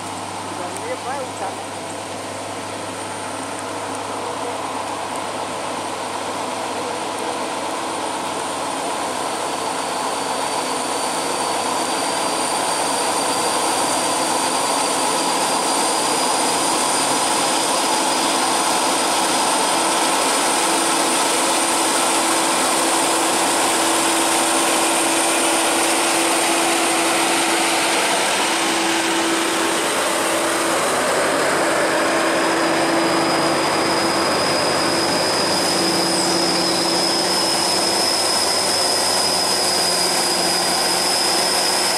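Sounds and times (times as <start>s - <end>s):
thin high whine: 0.0s - 41.9s
truck diesel engine under load: 0.0s - 41.9s.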